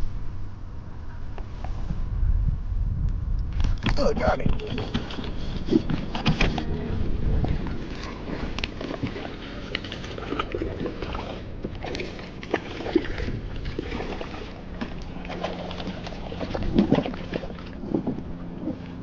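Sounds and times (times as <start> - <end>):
water sloshing: 3.6 - 19.0.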